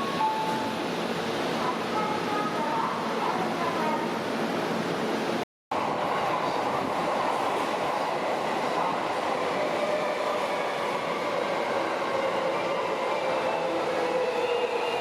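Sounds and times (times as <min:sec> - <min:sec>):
electric subway train running: 0:00.0 - 0:15.0.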